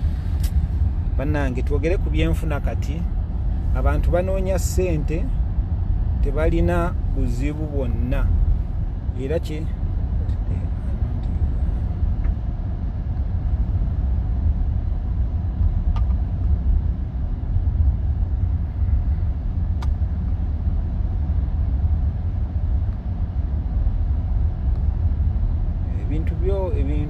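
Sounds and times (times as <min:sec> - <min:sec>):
car interior road and engine noise: 0:00.0 - 0:27.0.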